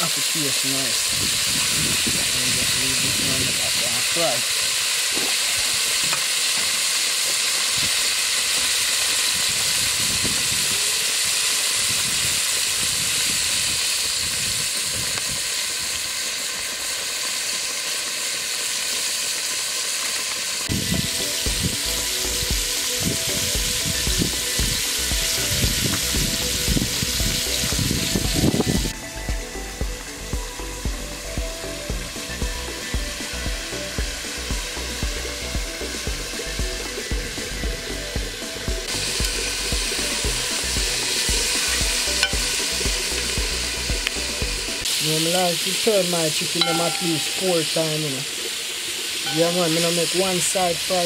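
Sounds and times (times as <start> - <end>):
chicken deep-frying in oil: 0.0 - 51.0.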